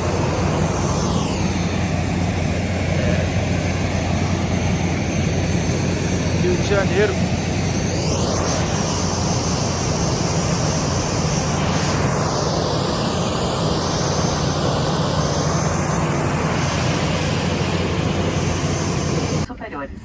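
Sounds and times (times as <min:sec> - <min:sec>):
jet engines roaring: 0:00.0 - 0:19.5
low hum: 0:00.0 - 0:19.5.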